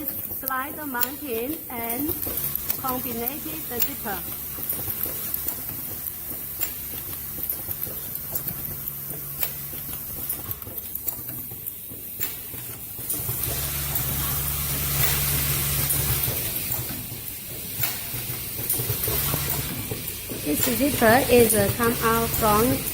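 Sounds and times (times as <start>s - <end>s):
machine humming and hissing: 0.0s - 22.9s
sharp machine clicks: 0.0s - 22.9s.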